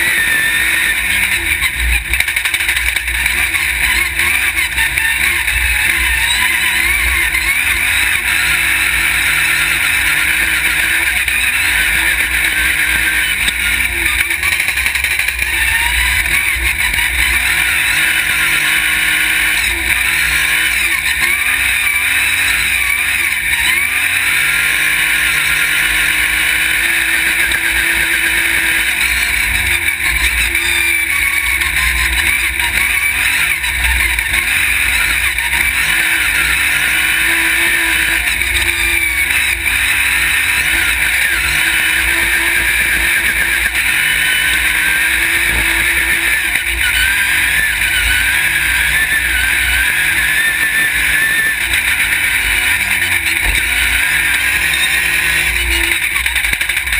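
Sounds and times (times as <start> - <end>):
buggy engine revving: 0.0 - 56.9.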